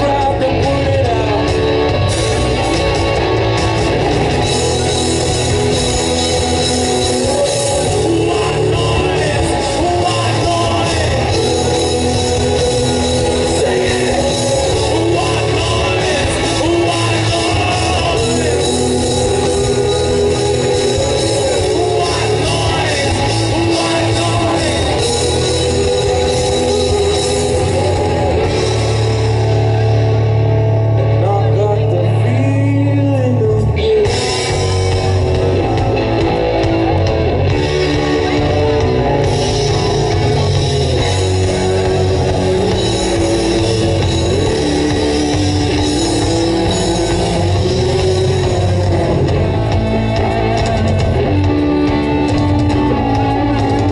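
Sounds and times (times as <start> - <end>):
man singing lead: 0.0 - 30.0, 30.8 - 53.9
loud live rock band: 0.0 - 53.9.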